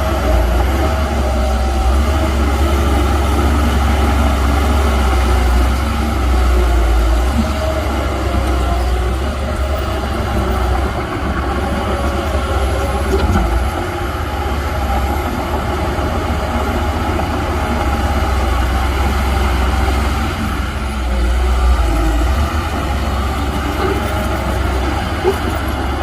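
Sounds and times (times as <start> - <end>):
heavy diesel machinery rumbling: 0.0 - 26.0.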